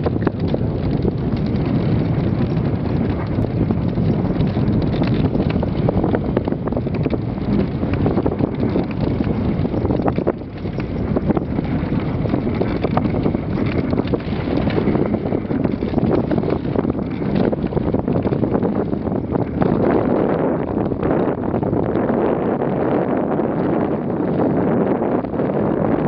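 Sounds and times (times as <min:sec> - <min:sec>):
clicks and knocks from sled: 0:00.0 - 0:22.2
sled runners scraping over snow: 0:00.0 - 0:26.0
wind buffeting microphone: 0:00.0 - 0:26.0.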